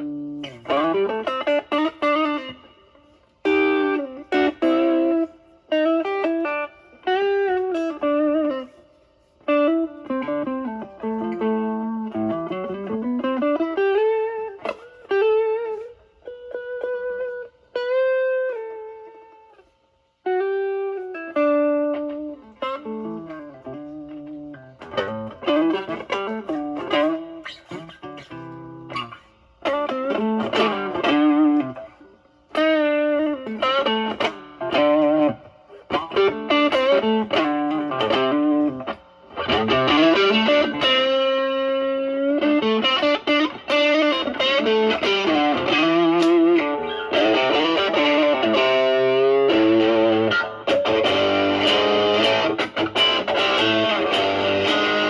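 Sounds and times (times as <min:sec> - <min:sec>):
distorted electric guitar lead: 0:00.0 - 0:55.0.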